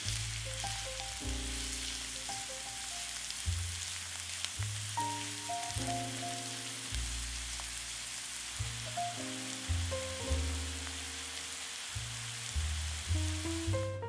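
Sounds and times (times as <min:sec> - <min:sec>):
background music with bass: 0:00.0 - 0:14.0
onion sizzling in hot oil: 0:00.0 - 0:14.0.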